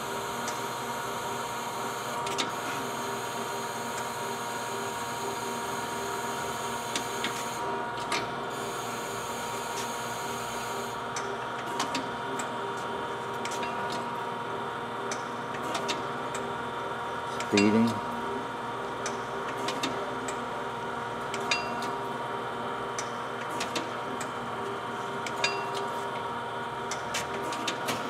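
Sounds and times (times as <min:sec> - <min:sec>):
grinder machine humming and whining: 0:00.0 - 0:28.0.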